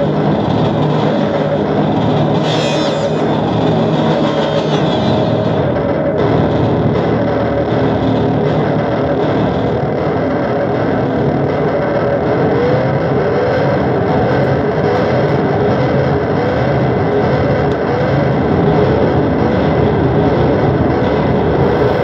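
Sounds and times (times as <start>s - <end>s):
loud wall of noise: 0.0s - 22.0s.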